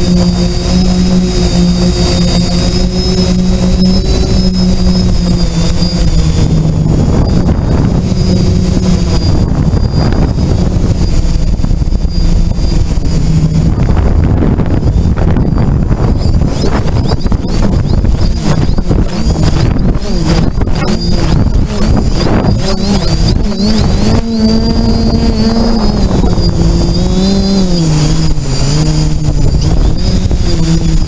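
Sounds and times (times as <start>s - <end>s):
drone propellers humming: 0.0s - 31.0s.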